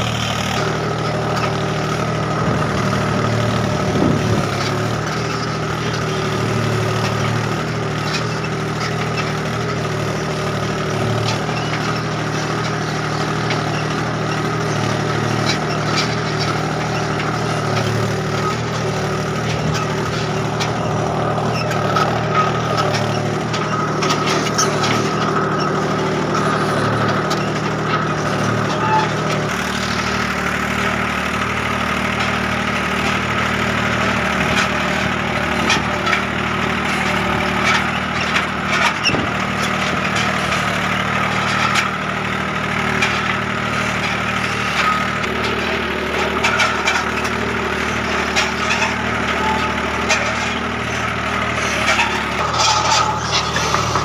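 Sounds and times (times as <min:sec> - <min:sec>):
tractor diesel engine running: 0:00.0 - 0:54.0
knocks and rattles: 0:00.5 - 0:54.0.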